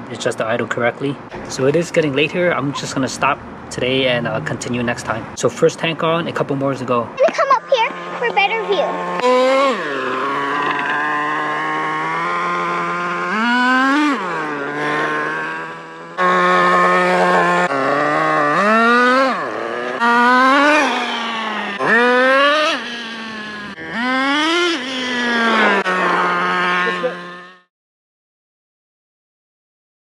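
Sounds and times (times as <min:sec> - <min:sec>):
nitro engine idling and revving: 0:00.0 - 0:27.7.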